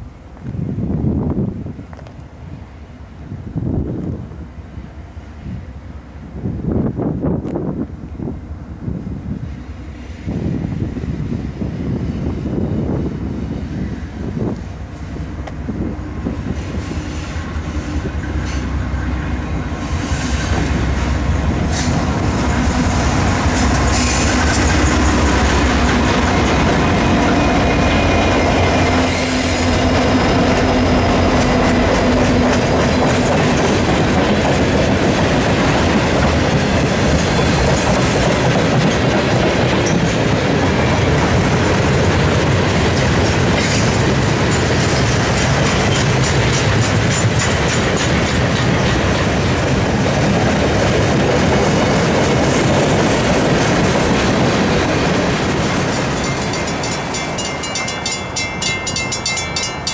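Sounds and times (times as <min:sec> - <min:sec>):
diesel locomotives passing: 0:00.0 - 0:59.9
freight cars rolling on rails: 0:06.7 - 0:59.9.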